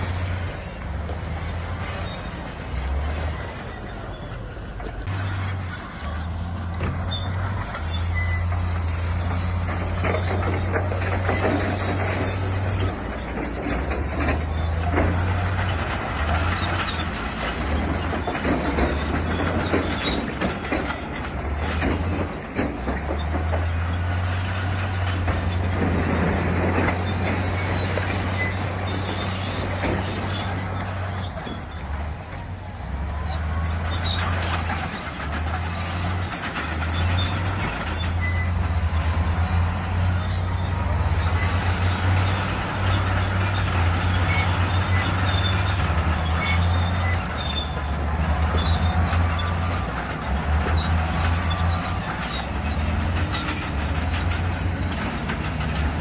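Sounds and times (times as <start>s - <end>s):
diesel engine drone: 0.0s - 56.0s
machinery clanks and rattles: 0.0s - 56.0s.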